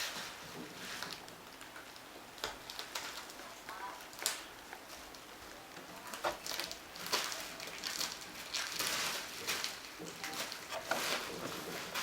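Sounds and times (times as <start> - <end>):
packaging crinkling and rustling: 0.0 - 5.2, 5.9 - 12.0.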